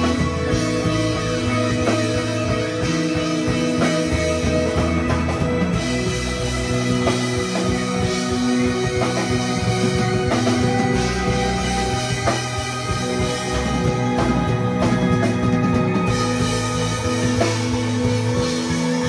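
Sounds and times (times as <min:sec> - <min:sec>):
drum kit: 0:00.0 - 0:19.0
electric bass line: 0:00.0 - 0:19.0
electric guitar: 0:00.0 - 0:19.0
keyboards: 0:00.0 - 0:19.0.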